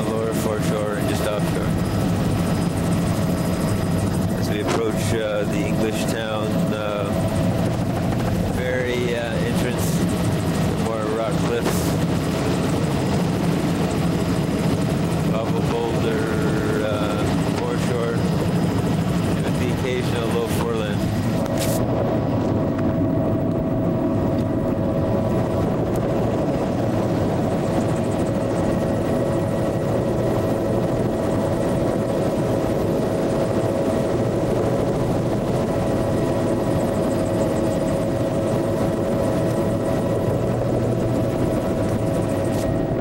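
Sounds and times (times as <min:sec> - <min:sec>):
aircraft engine drone: 0:00.0 - 0:43.0.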